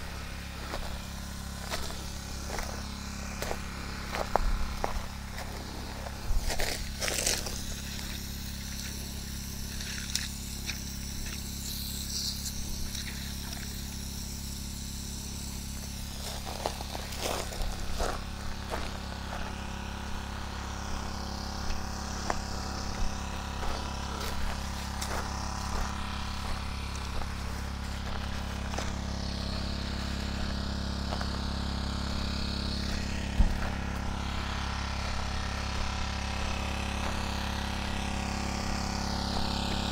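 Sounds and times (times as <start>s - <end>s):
footsteps in dry grass: 0.0s - 14.0s, 15.6s - 39.9s
small petrol engine running: 0.0s - 39.9s.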